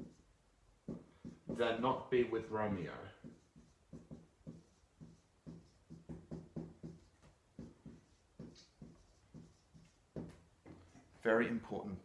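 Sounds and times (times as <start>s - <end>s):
marker writing on whiteboard: 0.0s - 11.2s.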